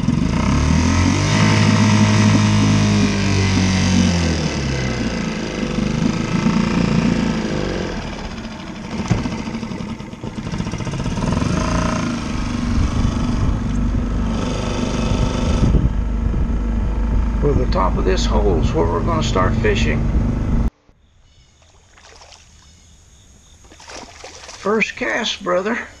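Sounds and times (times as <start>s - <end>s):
outboard motor running: 0.0s - 20.7s, 23.6s - 25.2s.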